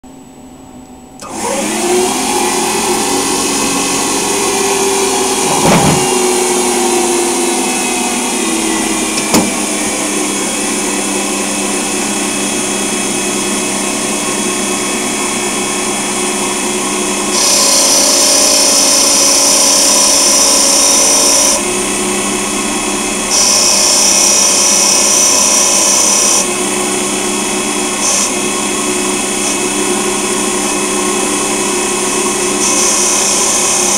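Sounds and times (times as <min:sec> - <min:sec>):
lathe spindle whining: 0:01.2 - 0:33.9.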